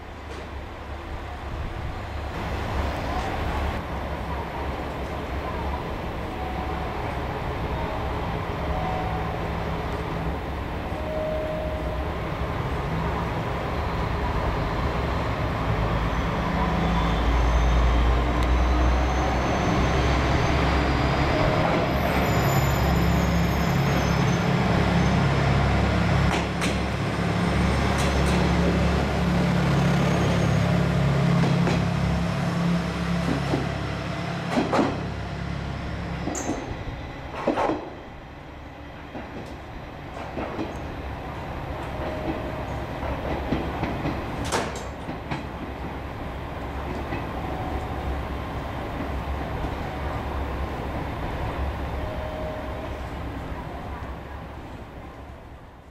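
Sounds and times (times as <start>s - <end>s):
diesel railcar engine drone: 0.0s - 55.9s.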